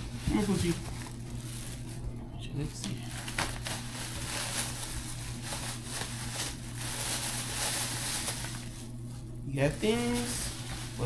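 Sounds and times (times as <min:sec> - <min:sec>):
paper rustling and crinkling: 0:00.0 - 0:11.0
steady low hum: 0:00.0 - 0:11.0.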